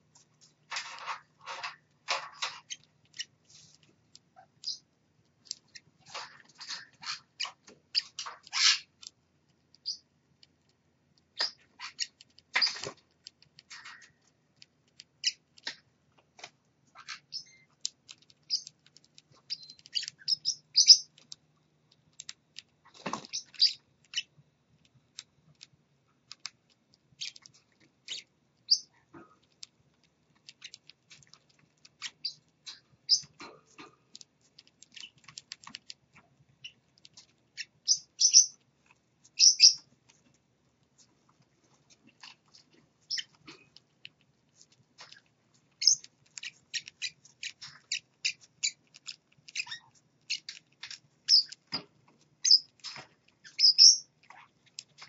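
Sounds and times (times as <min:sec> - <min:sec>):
birds chirping and squeaking: 0:00.2 - 0:09.1, 0:09.8 - 0:10.1, 0:11.3 - 0:14.4, 0:15.2 - 0:15.9, 0:16.8 - 0:21.4, 0:22.8 - 0:24.4, 0:26.4 - 0:29.7, 0:30.3 - 0:38.6, 0:39.3 - 0:40.3, 0:41.0 - 0:43.9, 0:44.5 - 0:55.0.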